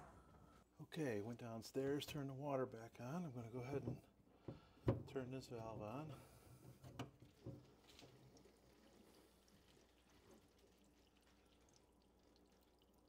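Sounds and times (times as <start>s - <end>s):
water filling filter housing: 1.2s - 13.0s.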